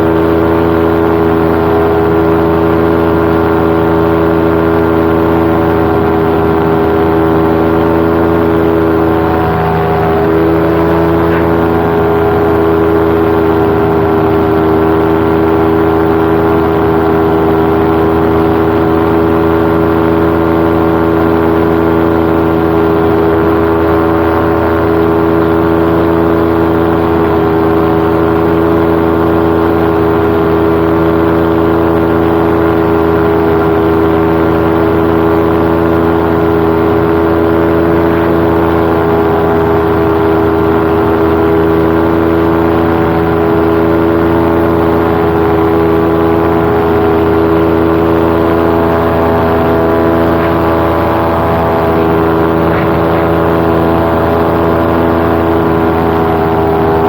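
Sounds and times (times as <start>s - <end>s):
paramotor engine drone: 0.0s - 57.0s.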